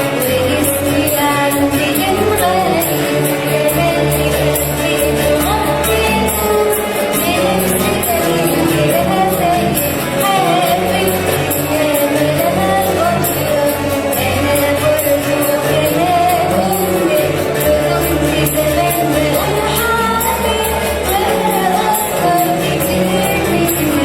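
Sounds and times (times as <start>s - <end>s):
instrumental backing with beat: 0.0s - 24.0s.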